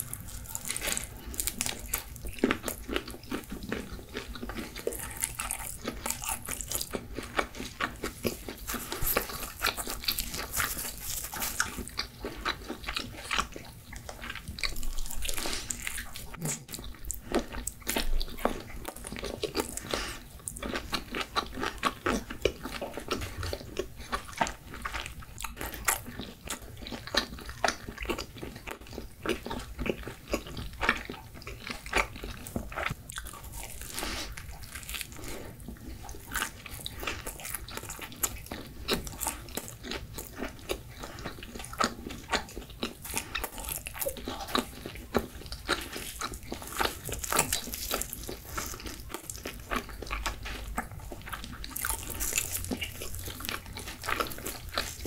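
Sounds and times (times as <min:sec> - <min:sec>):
chewing crunchy crust: 0:00.0 - 0:55.0.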